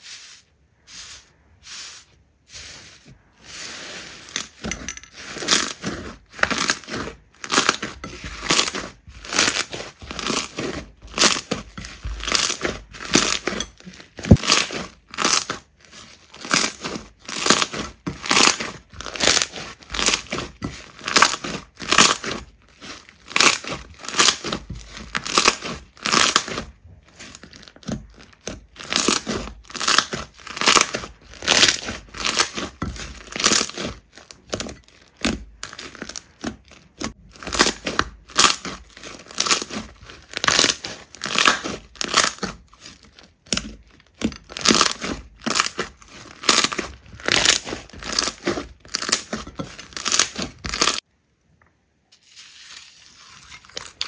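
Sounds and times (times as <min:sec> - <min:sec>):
slime crackling and popping: 0:05.4 - 0:51.1.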